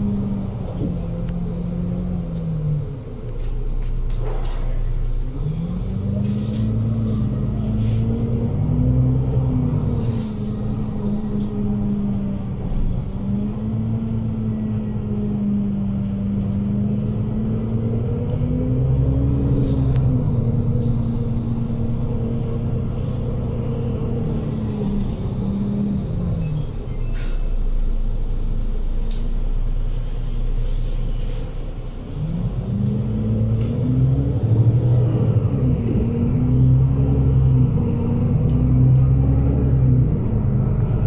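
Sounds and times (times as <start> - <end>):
bus engine hum: 0.0 - 41.0.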